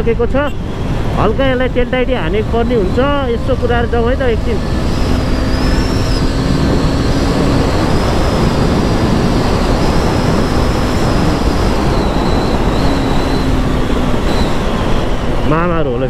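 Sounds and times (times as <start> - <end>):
motorcycle engine running: 0.0 - 15.6
road noise: 0.0 - 16.0
wind rush on microphone: 0.0 - 16.0.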